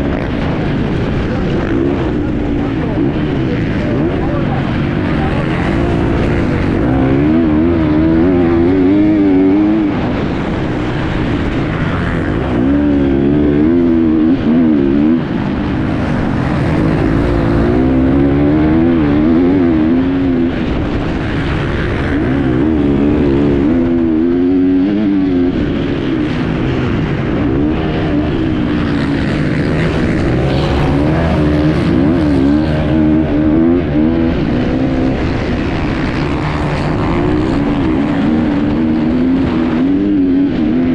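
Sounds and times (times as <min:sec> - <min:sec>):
motorcycle engine revving: 0:00.0 - 0:40.9
steady rushing noise: 0:00.0 - 0:40.9.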